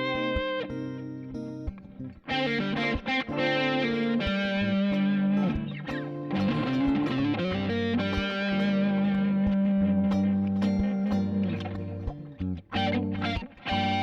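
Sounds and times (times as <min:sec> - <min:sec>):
distorted electric guitar music: 0:00.0 - 0:14.0.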